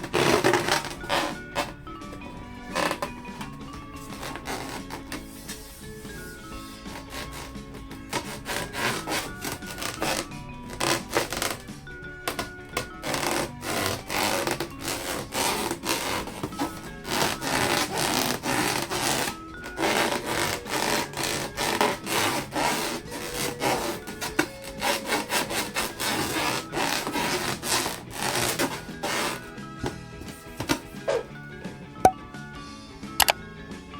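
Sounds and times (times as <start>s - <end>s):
hands rubbing balloons: 0.0s - 31.4s.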